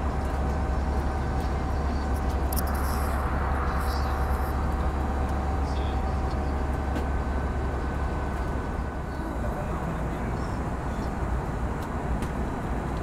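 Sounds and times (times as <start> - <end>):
airplane cabin rumble: 0.0 - 13.0
faint whining tones: 0.0 - 13.0.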